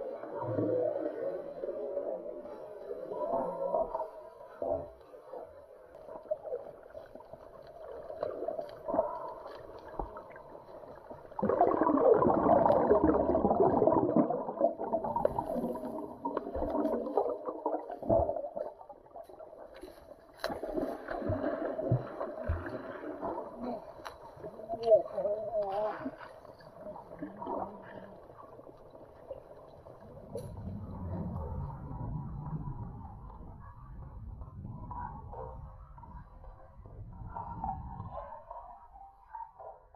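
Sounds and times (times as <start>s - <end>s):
underwater water churning: 0.0s - 35.7s.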